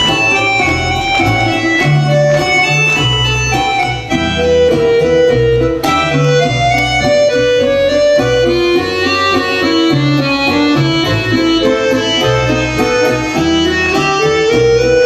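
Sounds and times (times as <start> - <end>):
instrumental melody: 0.0 - 15.0
repeating bass line: 0.0 - 15.0.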